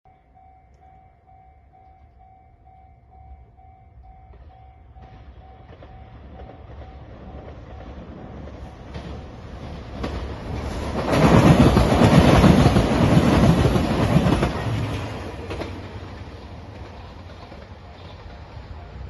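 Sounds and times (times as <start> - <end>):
train rumble: 0.1 - 19.0.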